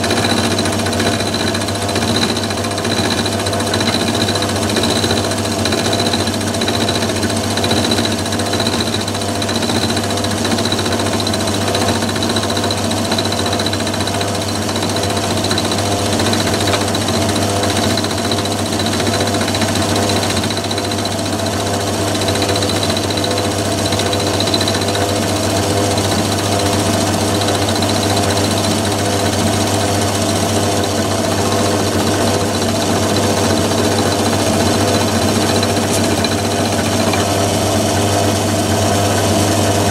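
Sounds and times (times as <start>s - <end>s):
lathe running steadily: 0.0s - 39.9s.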